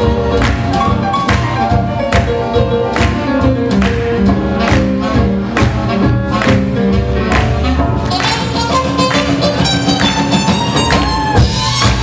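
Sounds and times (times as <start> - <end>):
swing band playing: 0.0 - 12.0.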